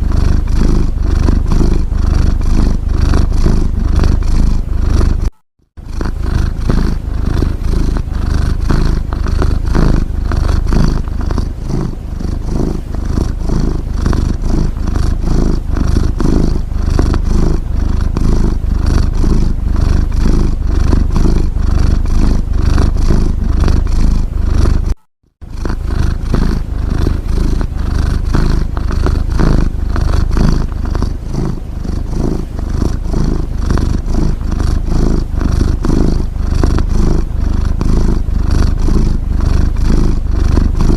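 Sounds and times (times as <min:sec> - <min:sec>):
cat snoring: 0:00.0 - 0:40.9.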